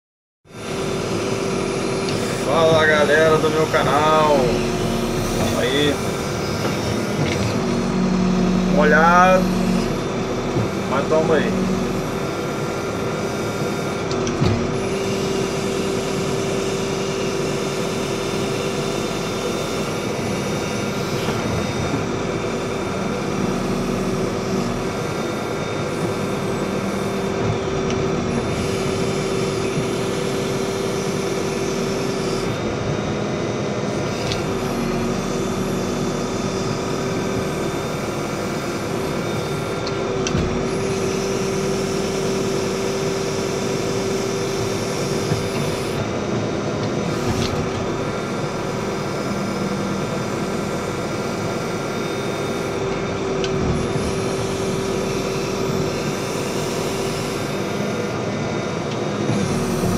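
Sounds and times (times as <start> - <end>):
diesel engine running under load: 0.4 - 59.9.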